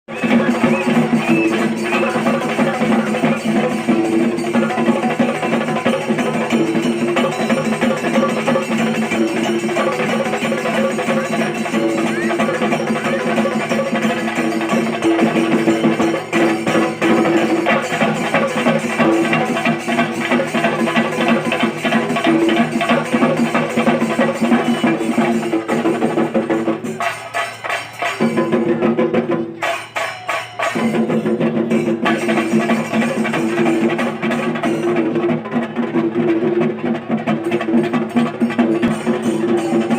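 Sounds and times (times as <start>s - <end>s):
drums beaten in fast rolls: 0.1s - 39.9s
hand cymbals clashing: 0.1s - 39.9s.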